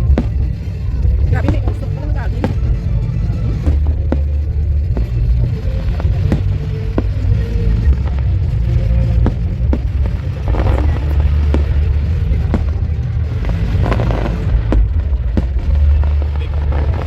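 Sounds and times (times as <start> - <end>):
fireworks bangs and pops: 0.0 - 17.0
low rumble: 0.0 - 17.0.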